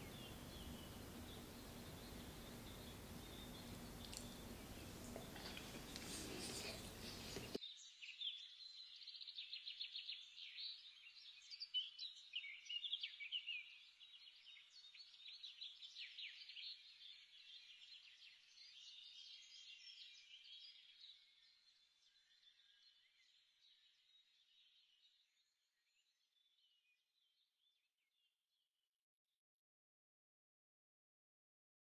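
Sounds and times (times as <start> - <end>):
background noise: 0.0 - 26.1
small birds chirping: 0.0 - 27.7.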